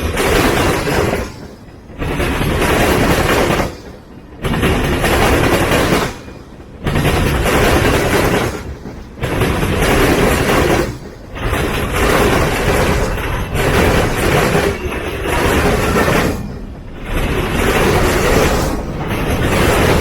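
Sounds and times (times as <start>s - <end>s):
freight train rumbling and rattling: 0.0s - 20.0s.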